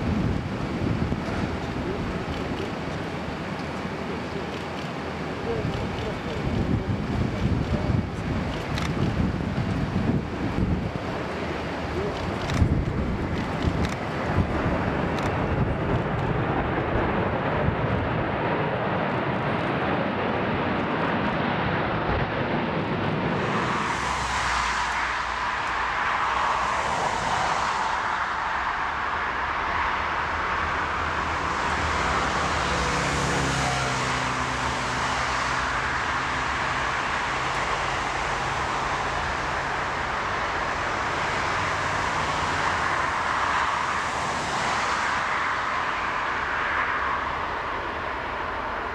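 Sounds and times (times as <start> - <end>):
jet engines rumbling: 0.0 - 48.9
turboprop engine hiss: 0.0 - 48.9
wind buffeting microphone: 0.0 - 48.9.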